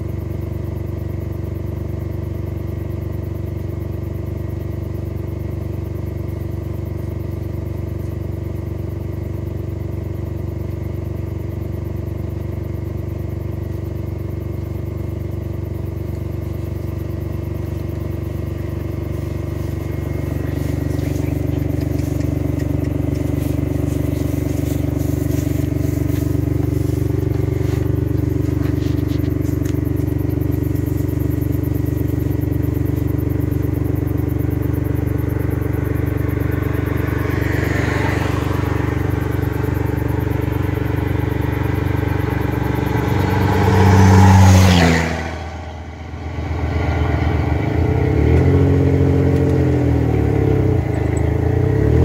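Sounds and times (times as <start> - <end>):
vehicle engine droning: 0.0 - 52.0.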